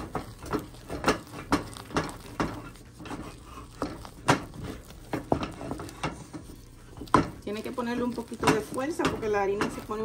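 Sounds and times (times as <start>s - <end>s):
utensil knocking and scraping a pot: 0.0s - 10.0s.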